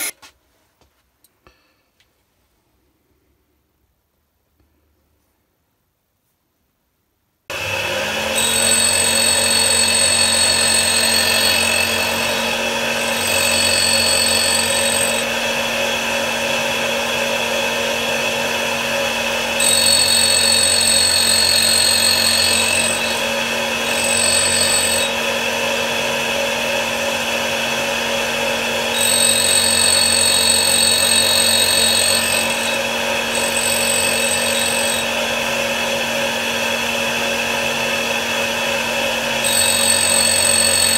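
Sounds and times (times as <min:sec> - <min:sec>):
grinder motor humming: 0:07.5 - 0:40.9
high-pitched grinding whine: 0:07.5 - 0:40.9.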